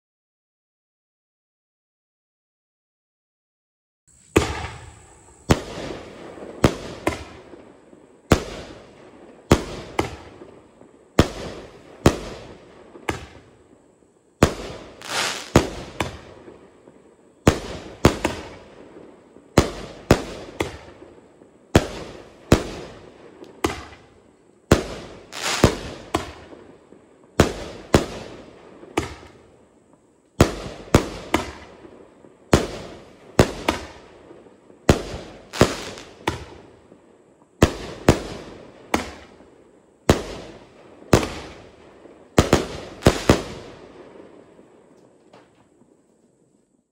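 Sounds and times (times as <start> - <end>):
fireworks bangs with echo: 4.2 - 13.6, 14.4 - 29.6, 30.4 - 44.7.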